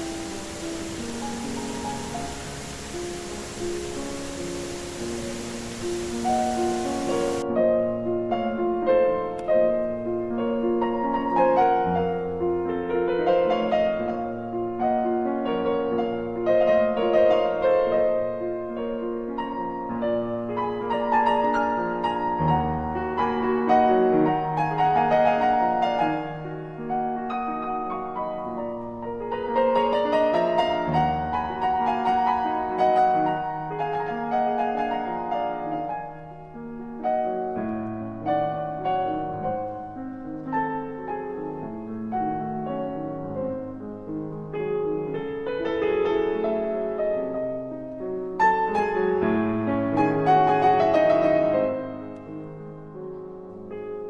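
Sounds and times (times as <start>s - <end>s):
gentle piano melody: 0.0s - 54.0s.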